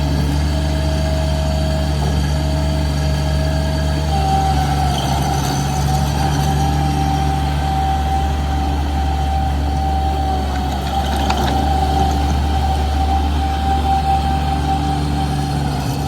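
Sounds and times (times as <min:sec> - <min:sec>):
loader engine idling: 0:00.0 - 0:16.0
steady high whine: 0:02.8 - 0:16.0.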